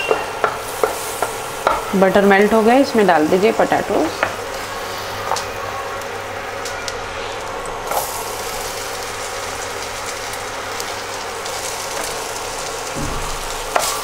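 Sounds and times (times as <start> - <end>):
potato sticks sizzling in butter: 0.0 - 14.0.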